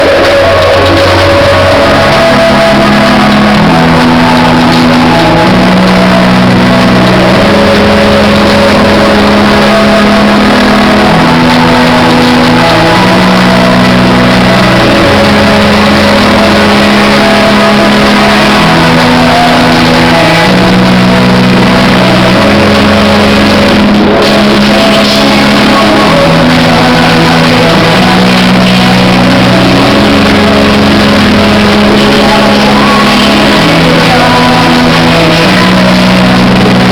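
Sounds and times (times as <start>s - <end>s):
loud distorted music over sound system: 0.0s - 36.9s.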